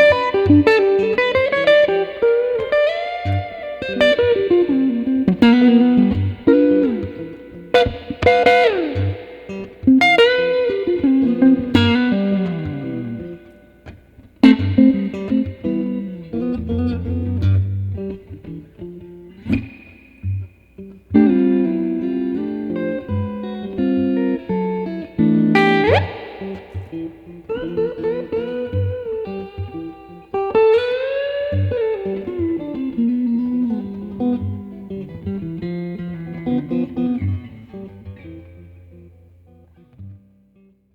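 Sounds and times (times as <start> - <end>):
clean electric guitar: 0.0 - 40.9.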